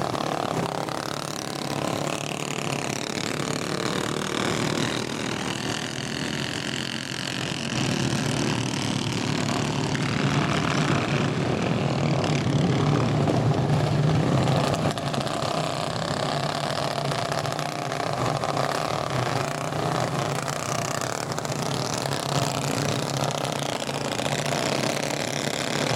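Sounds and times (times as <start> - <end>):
go-kart engines running: 0.0 - 25.9.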